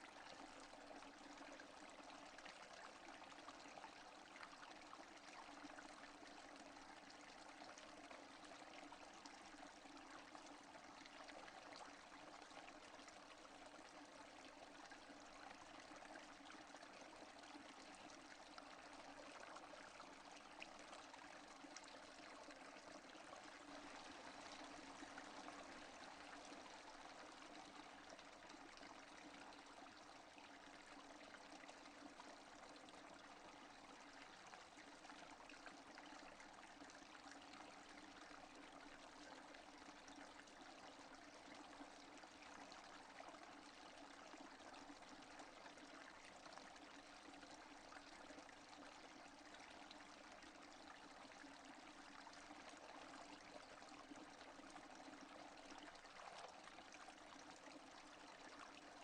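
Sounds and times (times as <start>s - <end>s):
faint steady rain patter: 0.0s - 59.0s.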